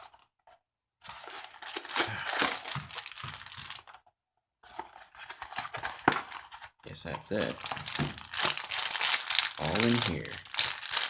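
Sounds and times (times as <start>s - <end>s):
plastic packaging crinkling and tearing: 1.1s - 4.0s, 4.7s - 11.0s.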